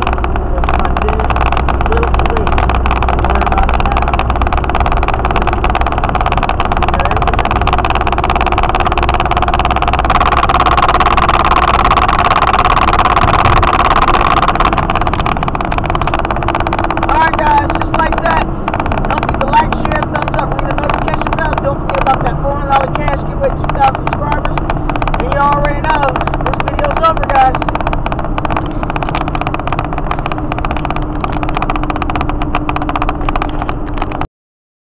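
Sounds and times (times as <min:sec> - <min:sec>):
car engine and road drone: 0:00.0 - 0:34.3
crackle of small clicks: 0:00.0 - 0:34.3.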